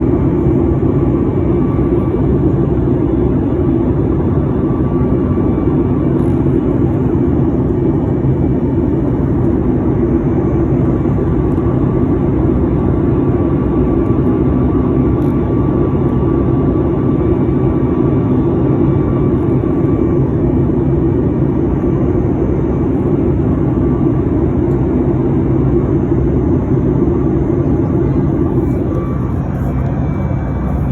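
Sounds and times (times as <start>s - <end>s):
faint steady whine: 0.0s - 30.9s
jet airliner cabin drone: 0.0s - 30.9s.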